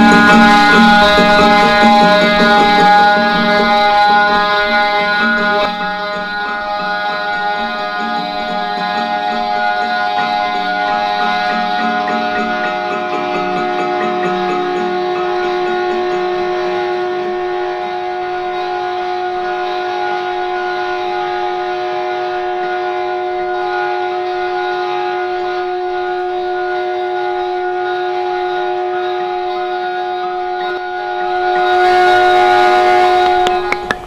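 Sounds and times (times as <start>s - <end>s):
sustained musical drone: 0.0s - 34.0s.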